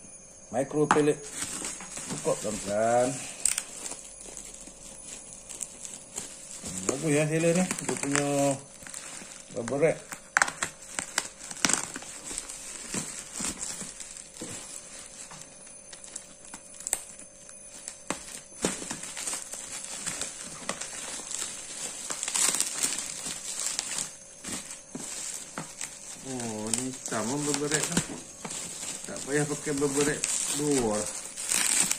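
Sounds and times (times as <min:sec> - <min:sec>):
plastic bag and bubble wrap crinkling: 0:00.6 - 0:31.9.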